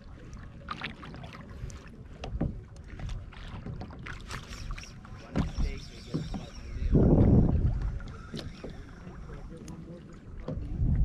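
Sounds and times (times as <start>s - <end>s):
water slapping against kayak hull: 0.0s - 11.0s.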